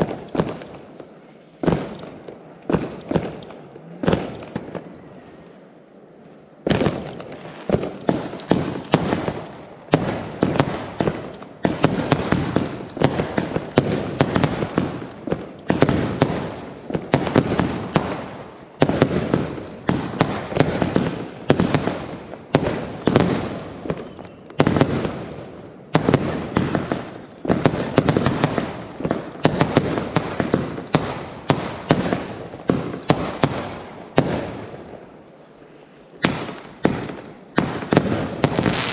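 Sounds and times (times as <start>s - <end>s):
fireworks bangs and crackling: 0.0s - 5.4s, 6.6s - 38.9s.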